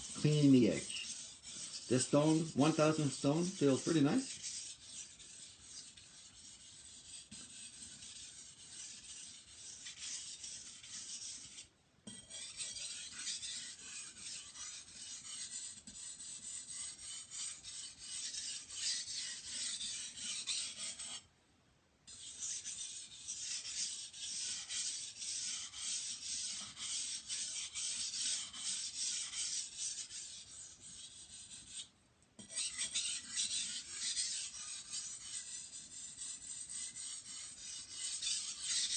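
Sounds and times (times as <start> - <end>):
knife scraping on whetstone: 0.0 - 21.3, 22.1 - 38.9.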